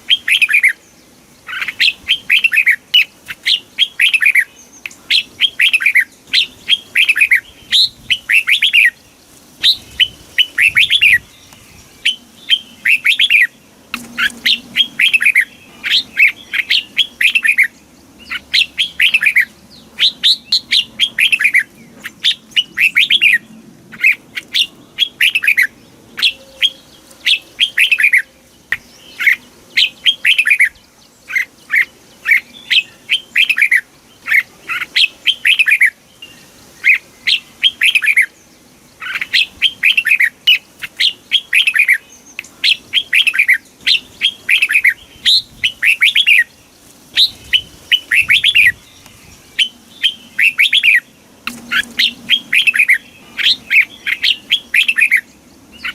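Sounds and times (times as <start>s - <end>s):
bird singing whistled notes: 0.0s - 46.6s, 47.2s - 55.9s.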